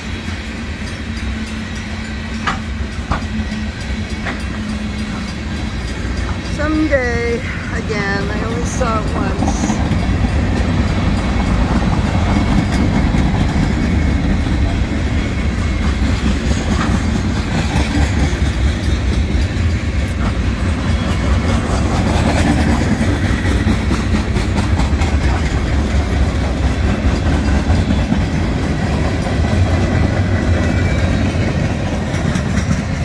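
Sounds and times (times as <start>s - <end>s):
train wheels rumbling on rail: 0.0s - 33.0s
wheels clacking over rail joints: 0.0s - 33.0s.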